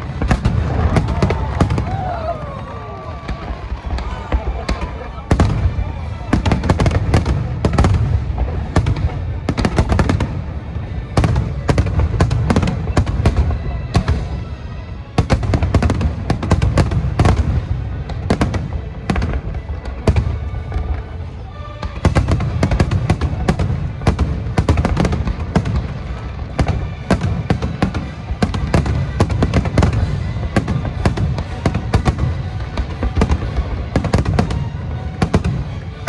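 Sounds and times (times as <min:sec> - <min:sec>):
fireworks booming and cracking: 0:00.0 - 0:36.0
music playing: 0:00.0 - 0:36.0.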